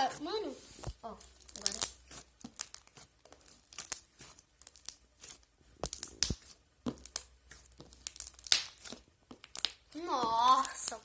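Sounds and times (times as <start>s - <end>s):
slime crackling and popping: 0.8s - 11.0s.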